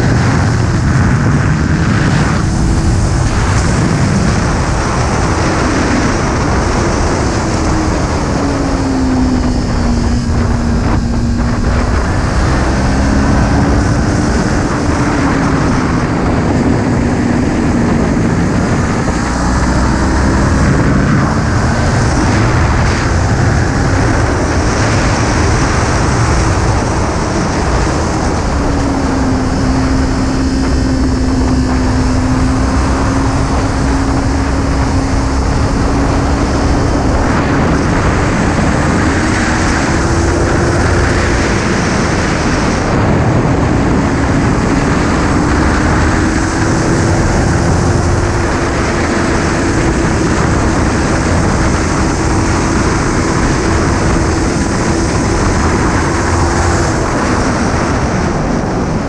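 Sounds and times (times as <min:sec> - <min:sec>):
heavy wind noise: 0:00.0 - 0:59.0
motorcycle engine cruising: 0:00.0 - 0:59.0.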